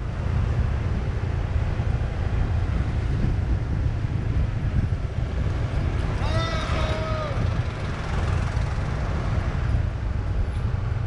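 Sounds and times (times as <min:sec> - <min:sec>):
motorbike ride noise: 0:00.0 - 0:11.0
wind buffeting microphone: 0:00.0 - 0:11.0.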